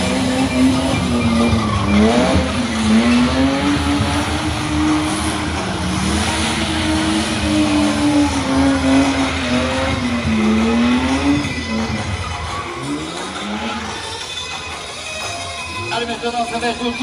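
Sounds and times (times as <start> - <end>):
car engine revving high: 0.0 - 14.2.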